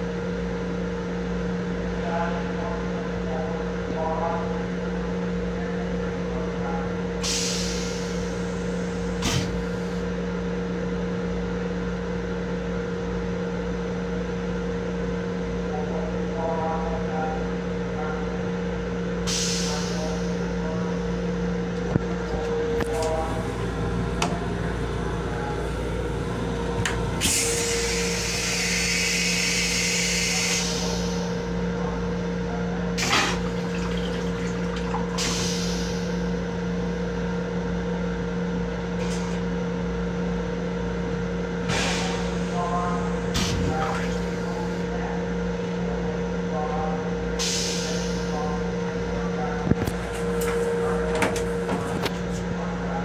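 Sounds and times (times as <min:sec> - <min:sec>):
electric railcar hum and drone: 0:00.0 - 0:53.0.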